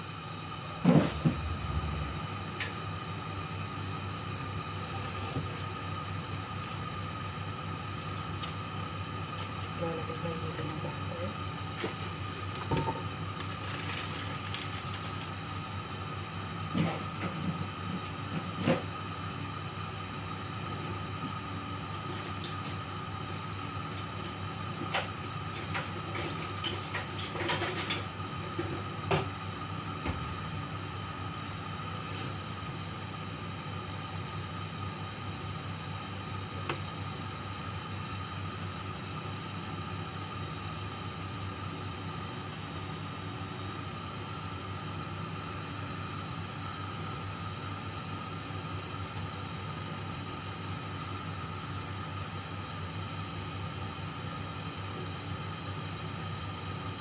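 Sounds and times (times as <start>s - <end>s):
faint constant whine: 0.0s - 57.0s
steady hum: 0.0s - 57.0s.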